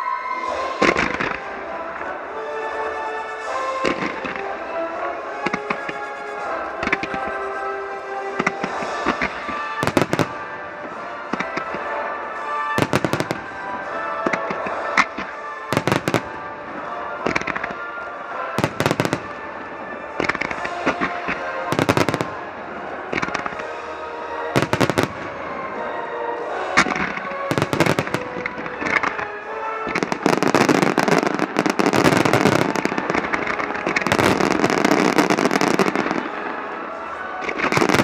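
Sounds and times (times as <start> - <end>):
orchestral music: 0.0 - 38.0
fireworks bursting: 0.4 - 2.2, 3.4 - 38.0.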